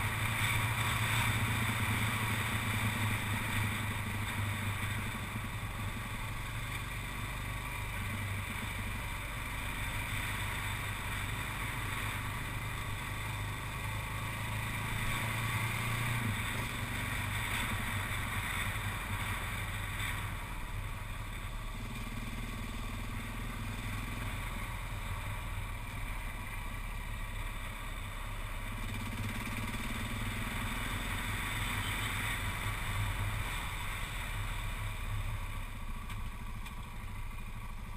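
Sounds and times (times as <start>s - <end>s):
motorcycle engine cruising: 0.0s - 37.9s.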